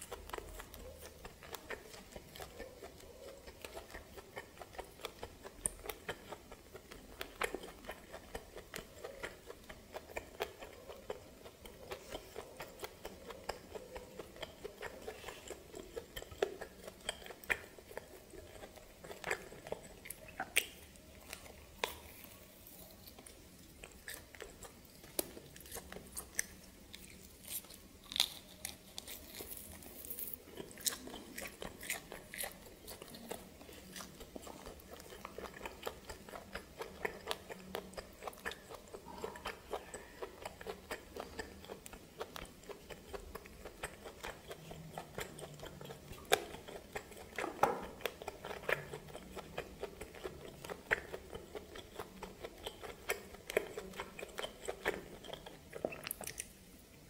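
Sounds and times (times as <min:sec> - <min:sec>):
biting and chewing crunches: 0:00.0 - 0:56.6.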